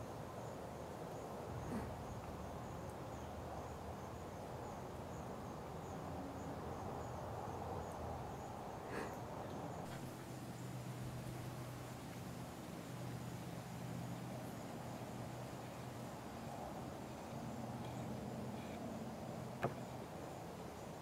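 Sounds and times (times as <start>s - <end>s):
faint outdoor hiss: 0.0s - 21.0s
insect chirping: 0.0s - 21.0s.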